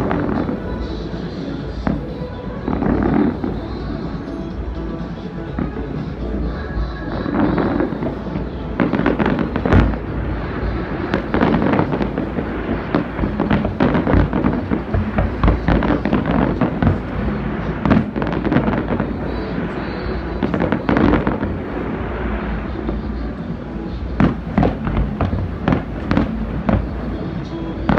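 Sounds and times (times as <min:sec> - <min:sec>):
fireworks popping and banging: 0:00.0 - 0:27.9.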